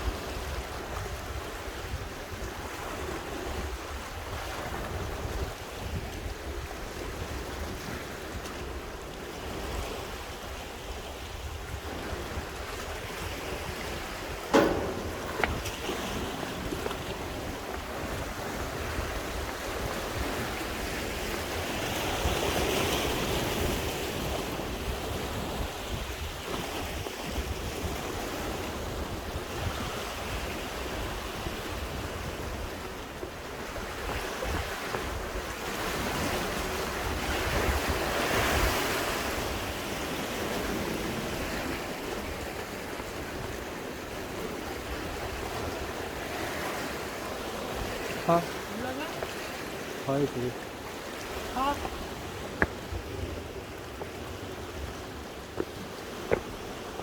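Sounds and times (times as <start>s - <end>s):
sea waves washing ashore: 0.0s - 57.0s
wind buffeting microphone: 0.0s - 57.0s.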